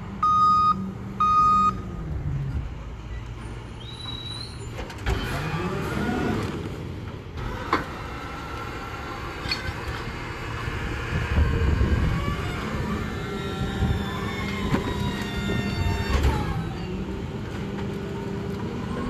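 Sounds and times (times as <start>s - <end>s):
garbage truck rumbling: 0.9s - 19.0s.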